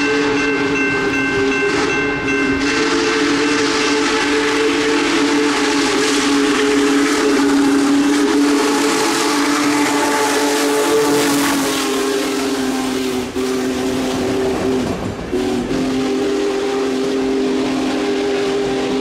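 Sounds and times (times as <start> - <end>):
rushing train noise: 0.0 - 19.0
steam locomotive whistle: 0.0 - 19.0.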